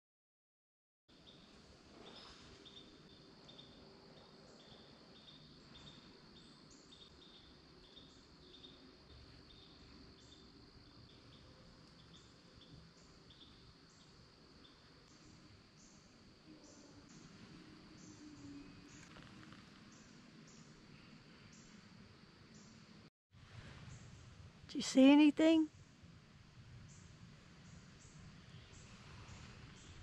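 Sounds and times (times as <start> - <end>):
insect chirps: 1.1 - 22.9, 26.7 - 30.0
insect drone: 1.2 - 24.3, 26.2 - 30.0.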